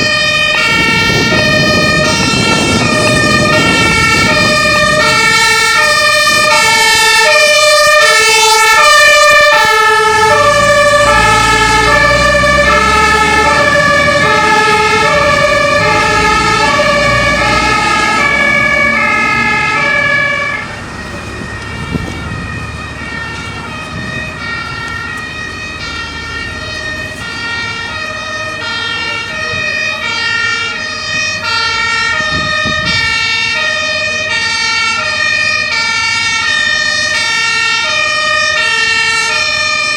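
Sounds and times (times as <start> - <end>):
heavy vehicle engine rumbling: 0.0 - 39.9
two-tone sirens: 0.0 - 39.9.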